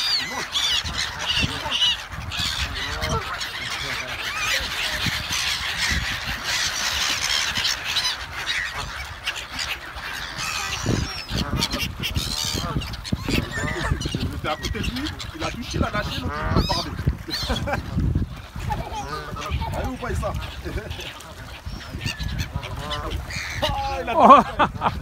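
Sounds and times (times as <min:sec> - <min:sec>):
gulls calling: 0:00.0 - 0:25.0.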